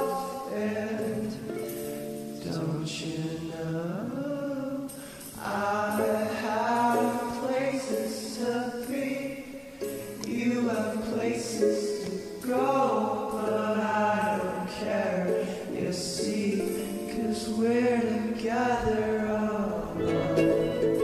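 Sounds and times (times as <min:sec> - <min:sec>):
folk song: 0:00.0 - 0:21.0
voices singing: 0:00.0 - 0:21.0.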